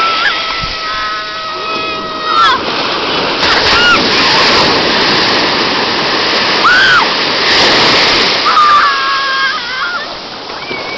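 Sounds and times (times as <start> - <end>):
ocean surf breaking: 0.0 - 10.9.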